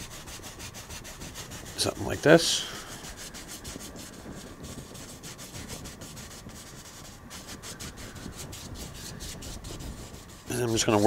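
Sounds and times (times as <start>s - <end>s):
paintbrush scrubbing on canvas: 0.0s - 11.0s.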